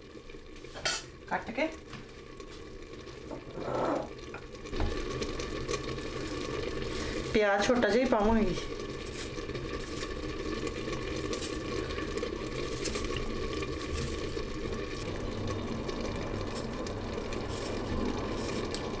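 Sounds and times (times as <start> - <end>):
pot of greens bubbling: 0.0 - 19.0.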